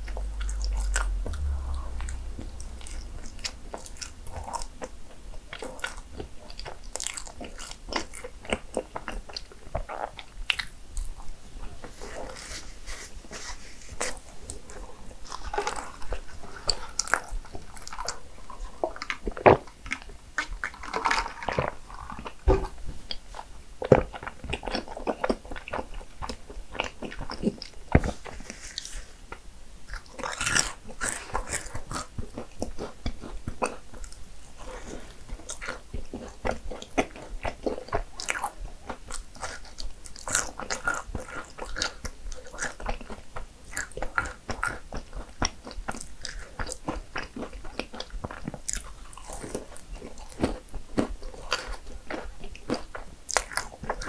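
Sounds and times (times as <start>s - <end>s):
person chewing with mouth clicks: 0.0s - 4.9s, 5.5s - 11.2s, 14.0s - 54.0s.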